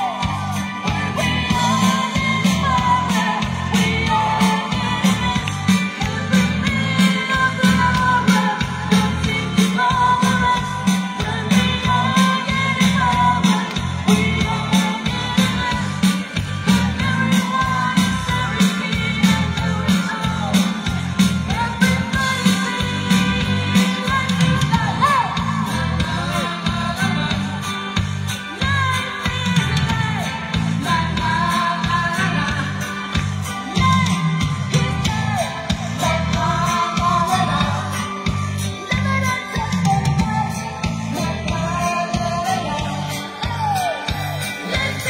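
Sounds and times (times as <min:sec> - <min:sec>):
live rock band: 0:00.0 - 0:45.0
person singing: 0:00.0 - 0:45.0.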